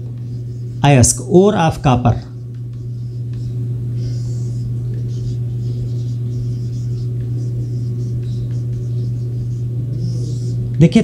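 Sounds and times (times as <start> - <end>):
marker writing on a whiteboard: 0.0 - 1.1, 2.3 - 10.8
low electrical hum: 0.0 - 11.0.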